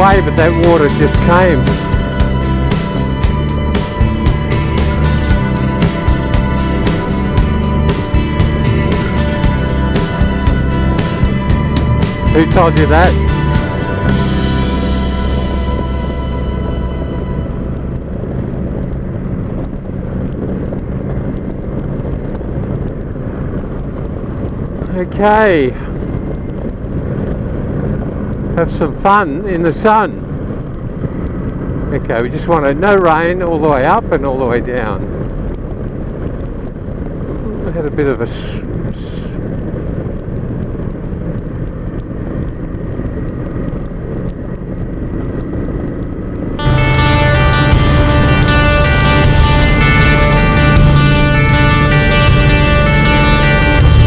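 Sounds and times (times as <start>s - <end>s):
motorcycle engine running: 0.0s - 33.9s, 39.0s - 54.0s
wind and road noise: 0.0s - 54.0s.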